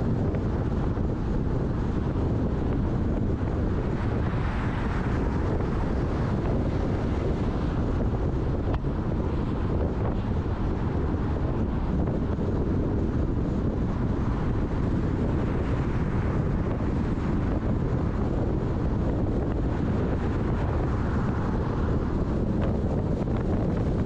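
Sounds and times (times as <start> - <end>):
car road noise: 0.0 - 24.0.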